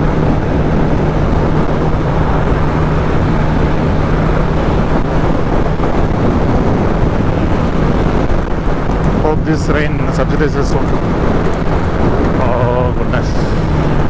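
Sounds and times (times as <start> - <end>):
loud wind rush: 0.0 - 14.0
motorcycle engine cruising: 0.0 - 14.0.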